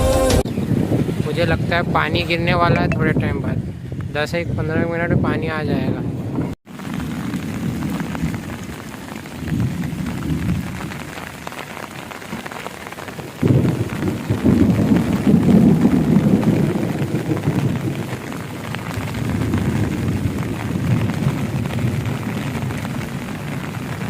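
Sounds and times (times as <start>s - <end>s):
storm wind gusting on microphone: 0.4s - 11.5s, 12.3s - 24.0s.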